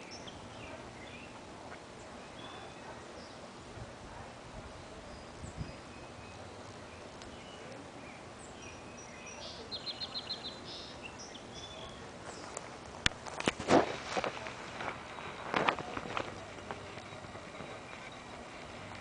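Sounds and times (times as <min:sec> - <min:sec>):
small birds chirping: 0:00.0 - 0:03.5, 0:04.6 - 0:12.9, 0:14.1 - 0:19.0
faint outdoor hiss: 0:00.0 - 0:19.0.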